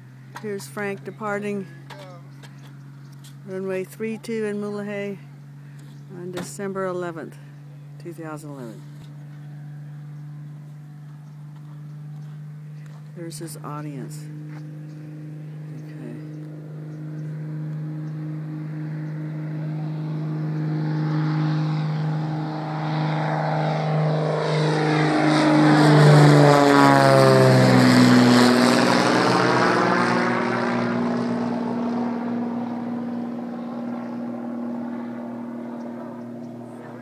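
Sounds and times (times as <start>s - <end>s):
propeller plane engine passing: 0.0s - 37.0s.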